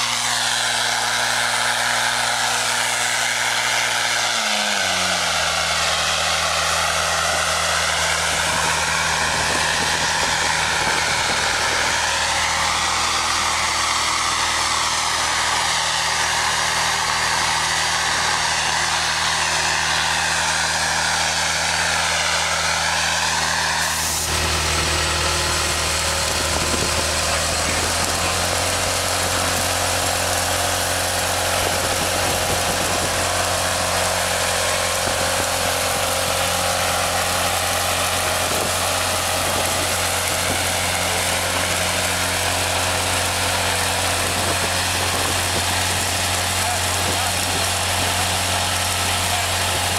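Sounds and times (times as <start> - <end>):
air rushing from hose: 0.0 - 49.9
engine humming: 0.0 - 49.9
stone chips blown through hose: 0.0 - 49.9.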